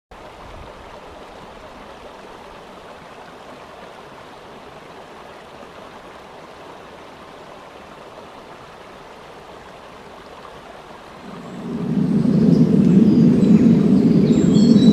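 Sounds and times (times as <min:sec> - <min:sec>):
running water rushing: 0:00.2 - 0:14.9.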